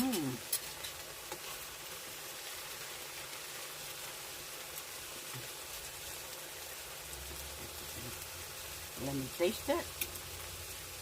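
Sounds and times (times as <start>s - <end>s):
stir-fry sizzling in a pan: 0.0s - 11.0s.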